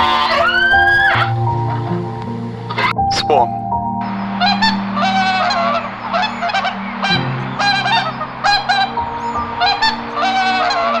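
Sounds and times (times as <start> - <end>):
low steady drone: 1.2 - 11.0.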